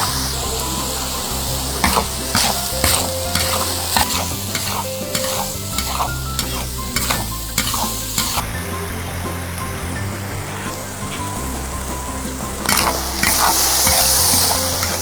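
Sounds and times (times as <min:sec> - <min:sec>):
food sizzling in a wok: 0:00.0 - 0:15.0
spatula scraping and knocking pan: 0:00.8 - 0:15.0.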